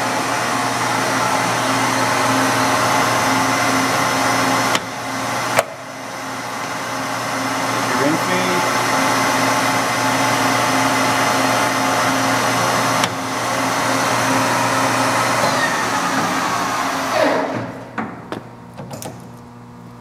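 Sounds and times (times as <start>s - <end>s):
lathe gear whine: 0.0s - 17.6s
lathe spindle winding down: 0.0s - 17.7s.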